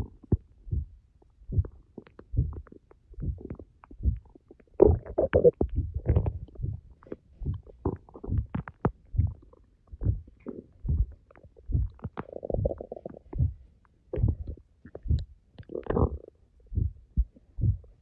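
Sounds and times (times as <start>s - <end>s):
stomach growling and gurgling: 1.5s - 18.0s.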